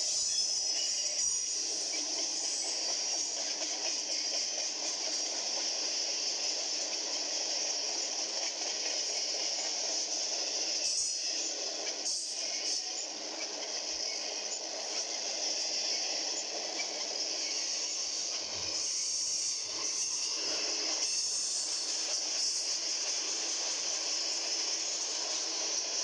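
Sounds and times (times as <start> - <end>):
freight train wheels on rails: 0.0 - 26.0
strong hiss: 0.0 - 26.0.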